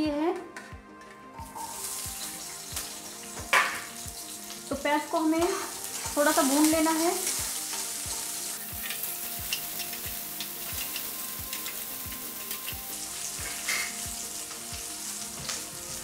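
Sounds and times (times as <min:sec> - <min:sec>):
onions sizzling in hot oil: 0:01.4 - 0:16.0.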